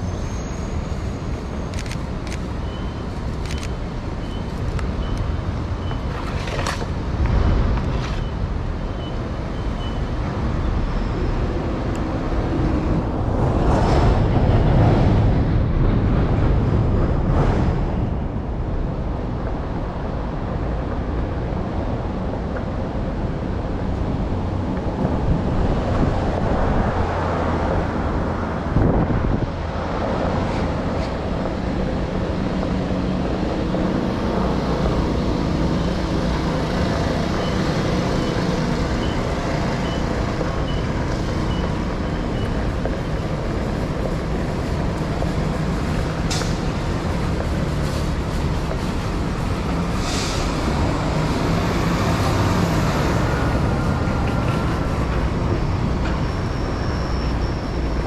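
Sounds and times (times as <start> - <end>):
passing traffic rumble: 0.0 - 58.0.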